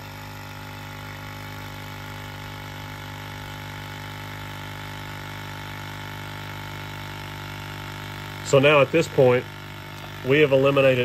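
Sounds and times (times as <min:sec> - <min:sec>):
electric vacuum pump running: 0:00.0 - 0:11.0.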